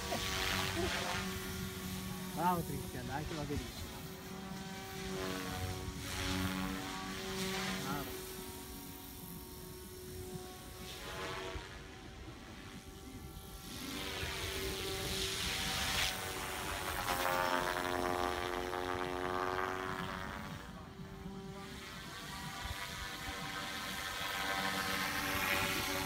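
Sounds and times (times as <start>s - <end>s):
model helicopter rotor whine: 0.0s - 26.0s.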